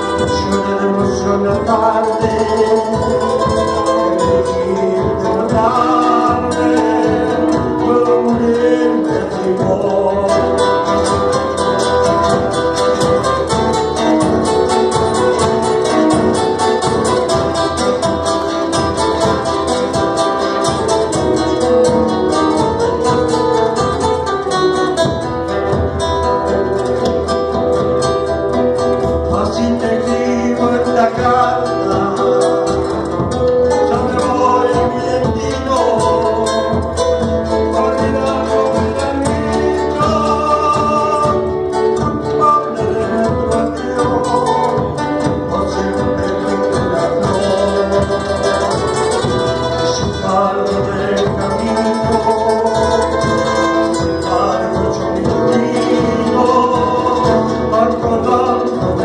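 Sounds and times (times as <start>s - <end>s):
acoustic guitars strummed: 0.0s - 59.0s
hand drum: 0.0s - 59.0s
man singing: 0.0s - 59.0s.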